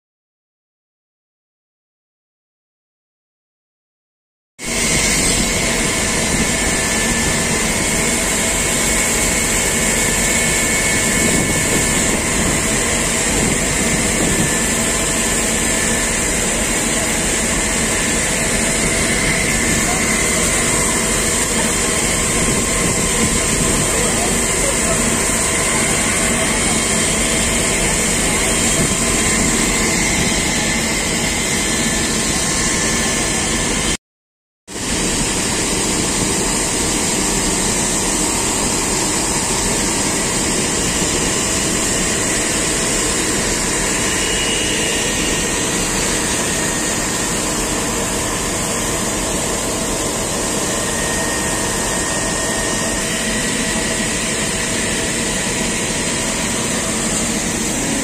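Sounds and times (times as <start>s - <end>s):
high-pressure water jets spraying: 4.7s - 33.9s, 34.8s - 58.0s
fire truck engine noise: 4.7s - 34.0s, 34.7s - 58.0s.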